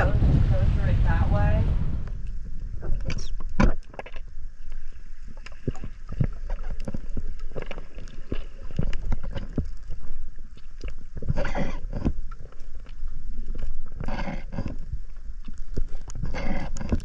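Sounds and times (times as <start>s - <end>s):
muffled underwater rumble: 0.0s - 17.0s
underwater clicks and knocks: 2.0s - 17.0s.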